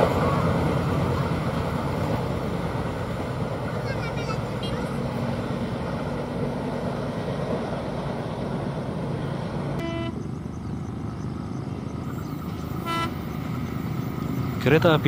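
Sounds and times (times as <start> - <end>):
engine and traffic rumble: 0.0 - 15.0.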